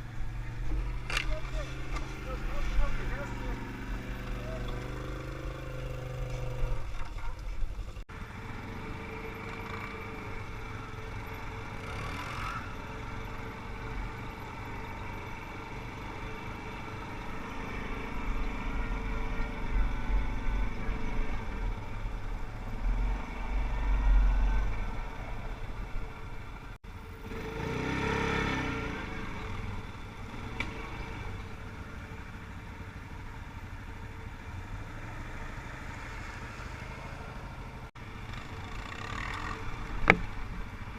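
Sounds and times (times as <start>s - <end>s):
quad bike engines revving: 0.0s - 40.9s.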